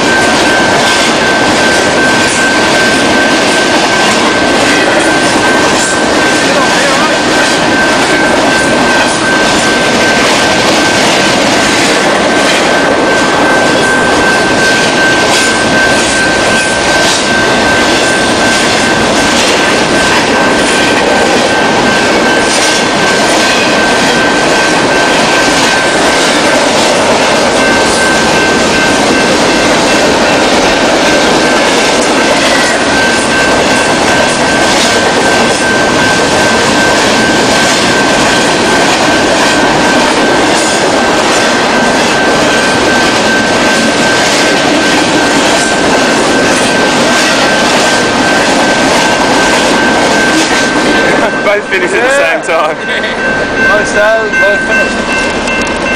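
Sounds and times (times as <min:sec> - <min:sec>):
steel wheels rumbling on rail: 0:00.0 - 0:55.9.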